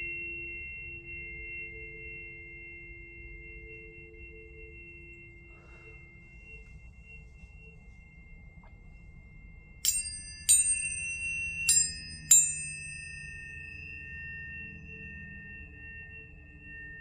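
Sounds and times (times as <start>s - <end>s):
high pure tones ringing: 0.0s - 17.0s
tuning fork strikes: 0.0s - 17.0s.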